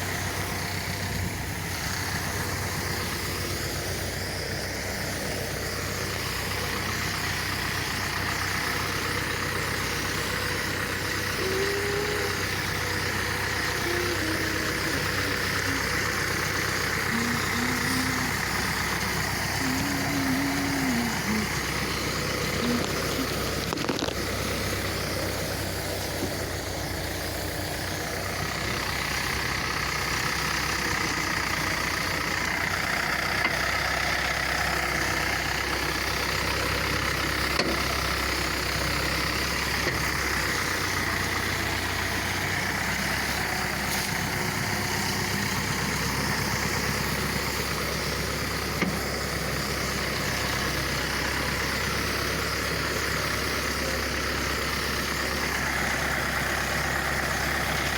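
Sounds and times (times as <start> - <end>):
engine running steadily: 0.0 - 57.9
sprayer pump: 0.0 - 57.9.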